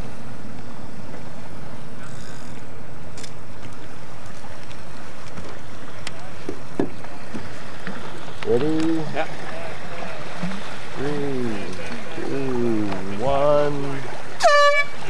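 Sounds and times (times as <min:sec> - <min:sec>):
water rushing past boat: 0:00.0 - 0:15.0.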